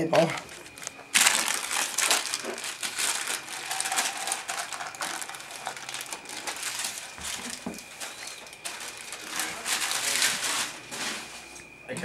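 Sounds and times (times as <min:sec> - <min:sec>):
baking paper rustling: 0:00.1 - 0:11.6.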